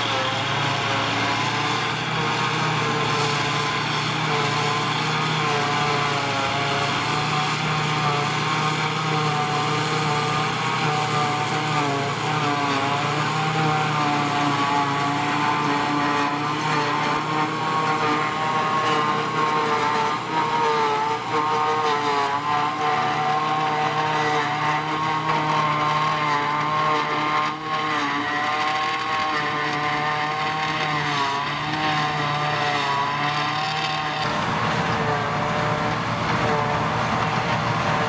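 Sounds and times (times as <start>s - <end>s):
forage harvester chopping grass: 0.0s - 38.0s
tractor engine running under load: 0.0s - 38.0s.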